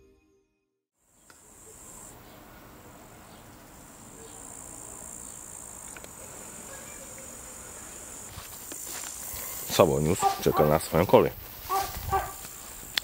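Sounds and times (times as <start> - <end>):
insects chirping: 1.0 - 13.0.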